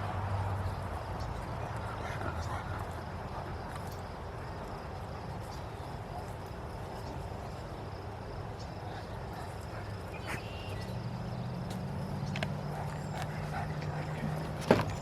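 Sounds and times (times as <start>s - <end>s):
insect chorus trilling: 0.3s - 15.0s.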